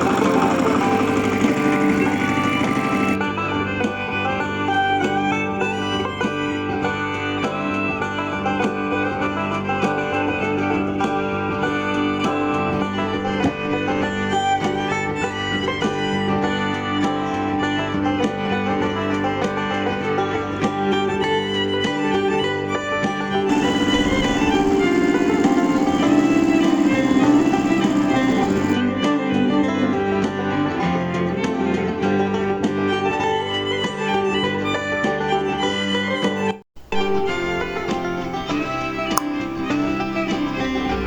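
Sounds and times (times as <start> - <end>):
upbeat banjo and fiddle music: 0.0 - 23.5, 28.7 - 41.0.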